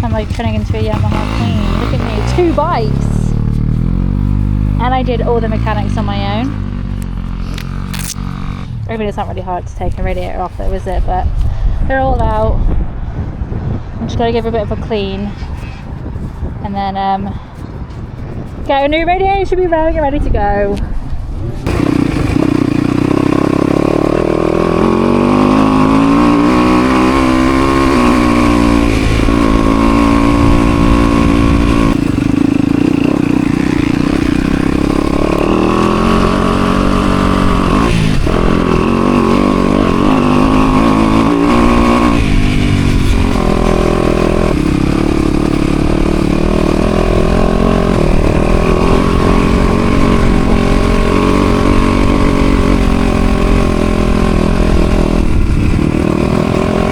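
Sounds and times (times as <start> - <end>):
dirt bike engine revving: 0.0 - 11.3, 21.6 - 56.9.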